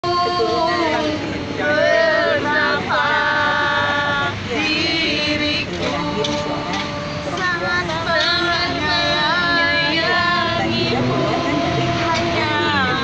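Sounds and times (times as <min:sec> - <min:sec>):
voices singing: 0:00.0 - 0:13.0.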